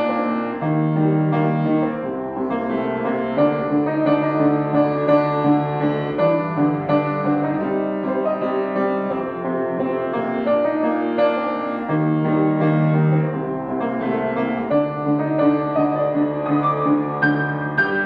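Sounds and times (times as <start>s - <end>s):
solo grand piano: 0.0s - 18.0s.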